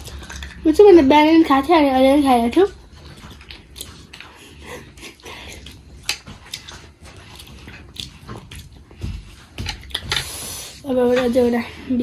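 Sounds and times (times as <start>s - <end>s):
wet chewing mouth sounds: 0.0s - 0.7s, 2.6s - 11.9s.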